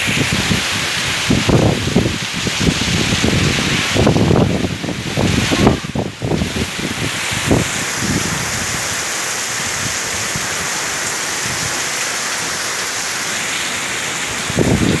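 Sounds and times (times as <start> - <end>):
wind buffeting microphone: 0.0 - 11.9, 14.2 - 15.0
heavy rain pouring: 0.0 - 15.0.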